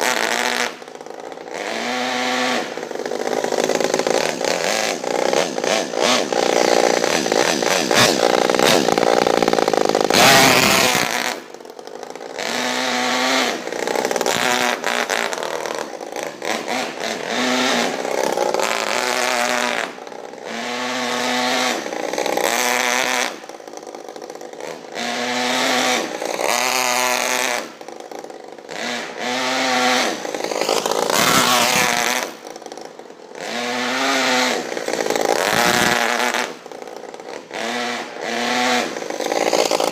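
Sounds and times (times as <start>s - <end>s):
model engine revving: 0.0s - 39.9s.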